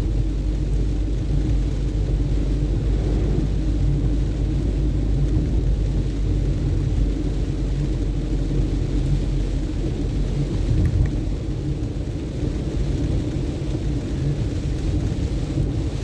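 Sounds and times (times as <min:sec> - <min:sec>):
car driving on wet road: 0:00.0 - 0:16.0
faint rain hiss: 0:00.1 - 0:16.0.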